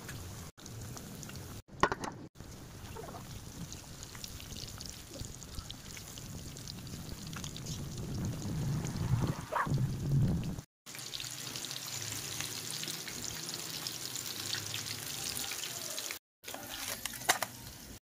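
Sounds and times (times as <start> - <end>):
chicken sizzling in hot oil: 2.4 - 9.6, 10.4 - 18.0.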